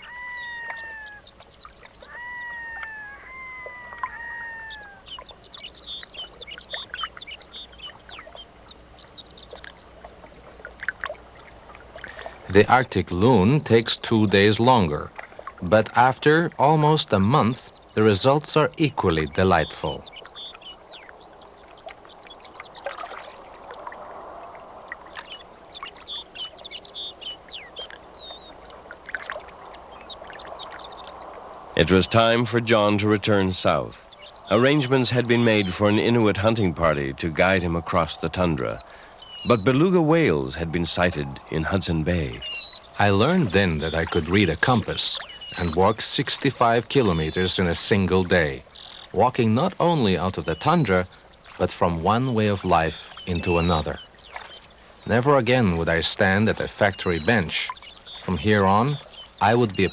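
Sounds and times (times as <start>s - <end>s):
birds peeping and chirping: 0.0s - 59.9s
loon wailing calls: 0.0s - 59.9s
water washing: 0.0s - 59.9s.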